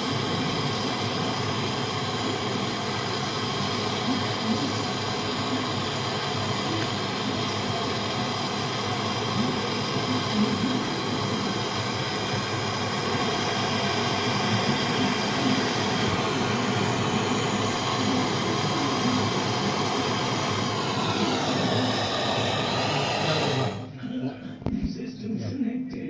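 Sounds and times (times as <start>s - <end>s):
machine noise with whine: 0.0s - 23.9s.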